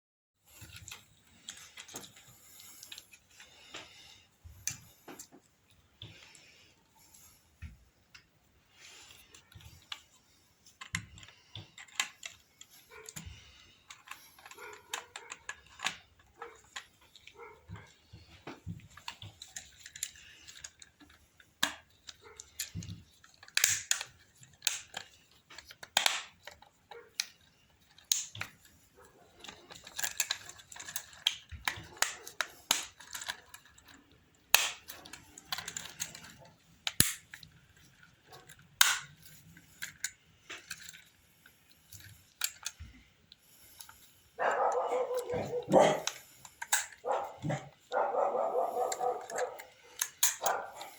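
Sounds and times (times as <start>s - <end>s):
small clicks and taps of tools: 0.5s - 28.8s, 29.4s - 48.0s, 48.8s - 50.9s.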